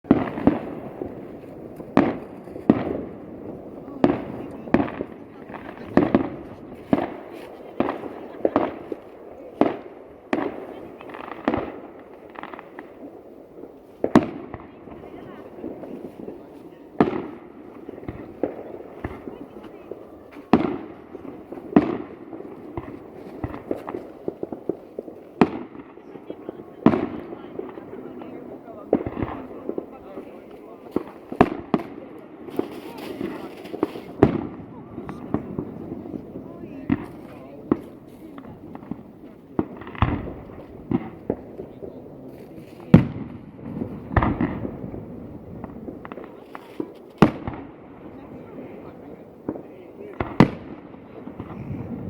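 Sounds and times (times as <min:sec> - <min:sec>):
firework pops and crackle: 0:00.0 - 0:52.0
firework shells bursting with bangs: 0:00.0 - 0:52.0.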